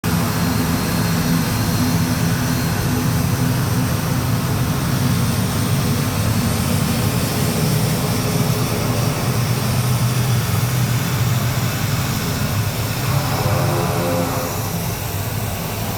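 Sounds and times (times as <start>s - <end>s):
aeroplane engines during takeoff: 0.0s - 15.9s.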